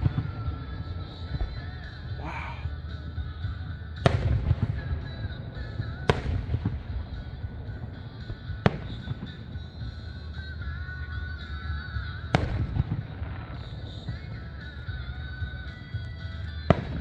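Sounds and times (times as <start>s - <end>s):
firework shell bursts: 0.0s - 17.0s
low rumble of fireworks: 0.0s - 17.0s.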